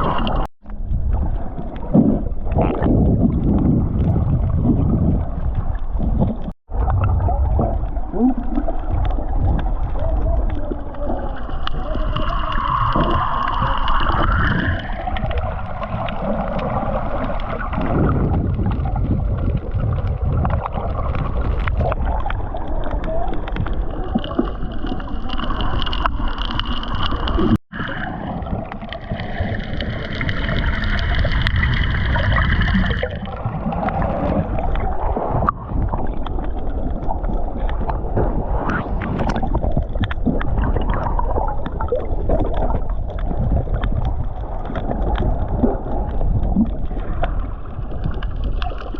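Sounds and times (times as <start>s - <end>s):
water sloshing and gurgling: 0.0s - 48.9s.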